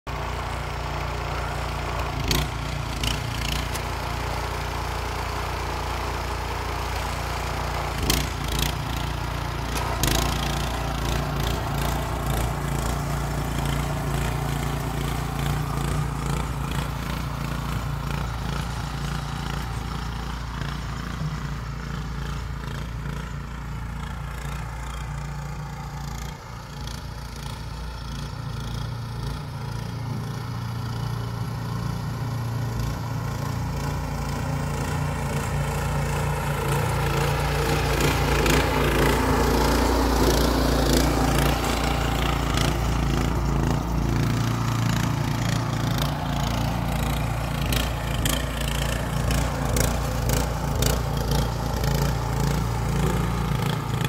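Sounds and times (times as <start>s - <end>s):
small tractor engine running: 0.1s - 54.0s.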